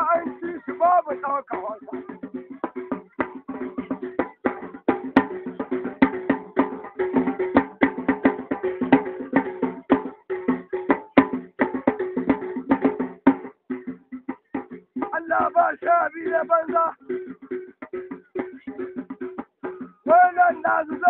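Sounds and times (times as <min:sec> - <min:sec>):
fast percussion music: 0:00.0 - 0:21.0.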